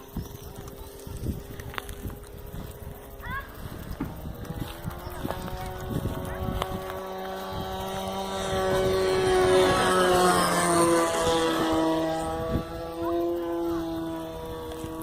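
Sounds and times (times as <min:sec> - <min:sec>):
airplane engine drone passing: 0:00.0 - 0:15.0.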